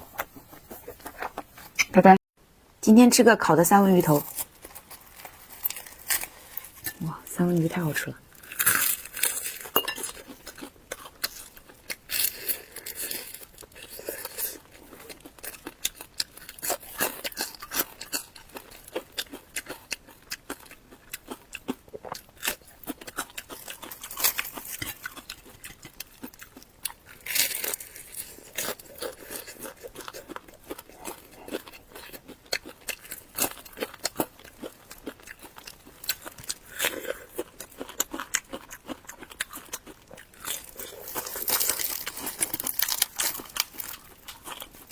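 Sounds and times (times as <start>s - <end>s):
close chewing with crunches: 0.0s - 2.0s, 4.0s - 44.9s.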